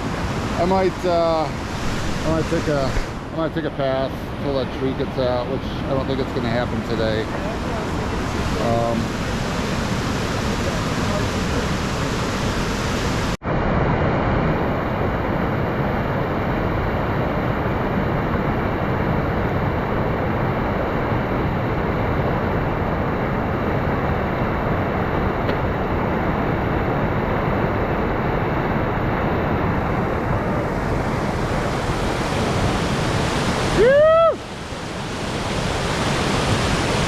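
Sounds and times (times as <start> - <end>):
whitewater rushing: 0.0 - 13.4, 14.5 - 37.0.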